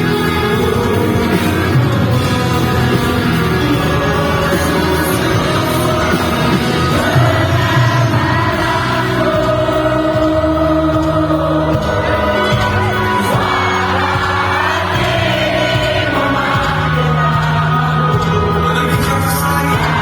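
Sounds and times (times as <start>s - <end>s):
bass line: 0.0s - 20.0s
live pop-rock band: 0.0s - 20.0s
person singing: 0.0s - 20.0s.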